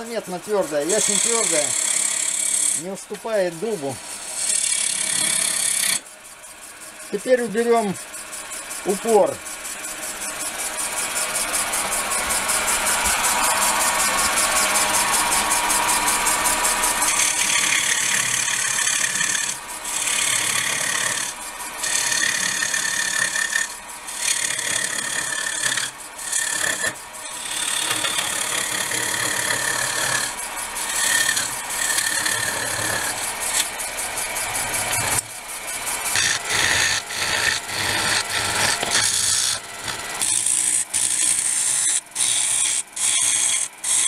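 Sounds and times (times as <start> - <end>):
lathe cutter scraping wood: 0.0 - 6.1, 6.7 - 44.0.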